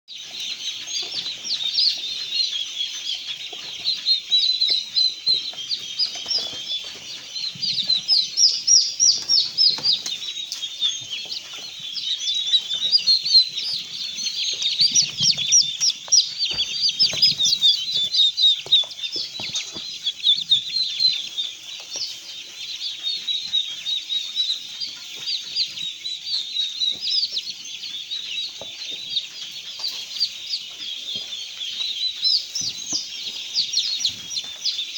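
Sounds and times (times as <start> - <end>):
chicks peeping: 0.1 - 34.9.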